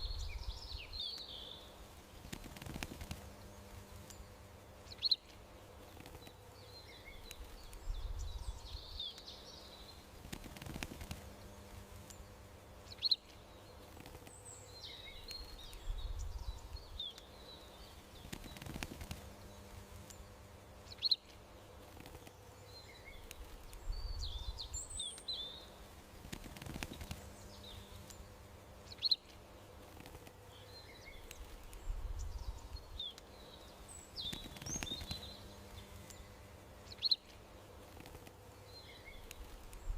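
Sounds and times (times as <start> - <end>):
small birds chirping: 0.0 - 39.9
faint low rumble: 1.7 - 39.9.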